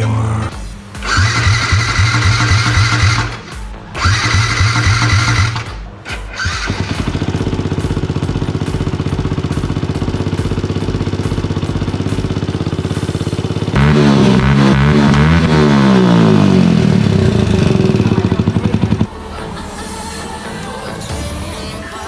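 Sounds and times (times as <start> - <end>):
small motorcycle engine running: 0.6 - 19.1.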